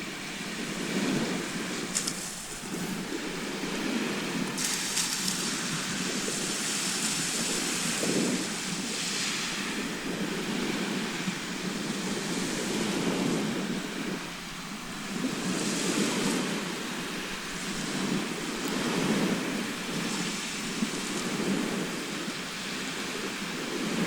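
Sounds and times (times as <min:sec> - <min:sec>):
waves on the shore: 0:00.0 - 0:24.0.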